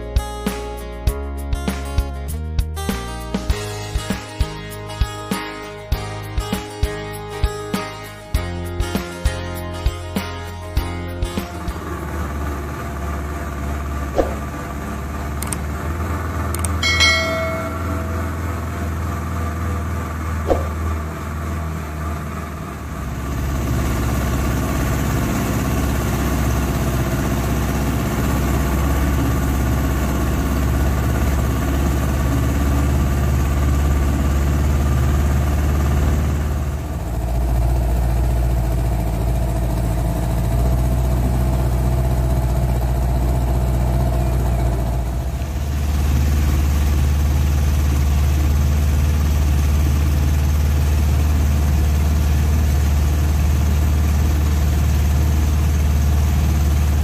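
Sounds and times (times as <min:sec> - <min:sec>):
outboard motor running: 0:11.2 - 0:57.0.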